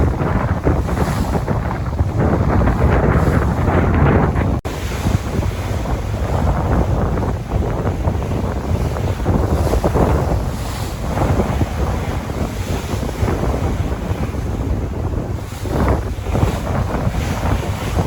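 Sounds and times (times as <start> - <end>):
sea waves washing in: 0.0 - 18.0
wind buffeting microphone: 0.0 - 18.0.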